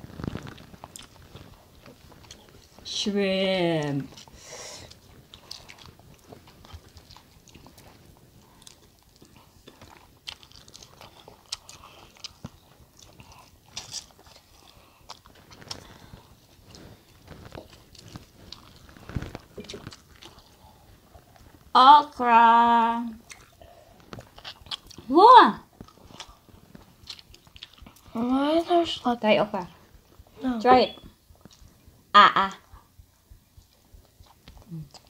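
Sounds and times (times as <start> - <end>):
chewing and biting food: 0.0 - 2.8, 4.0 - 21.7, 23.2 - 29.0, 29.6 - 31.8, 32.6 - 35.0.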